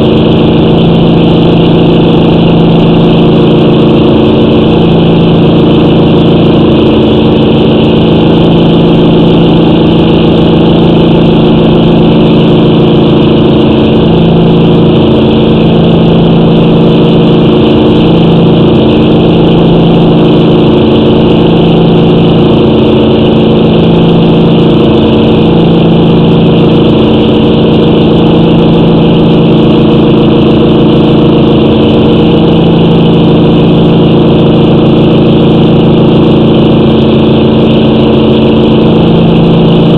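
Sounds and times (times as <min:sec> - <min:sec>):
pulsing mechanical drone: 0:00.0 - 0:39.9.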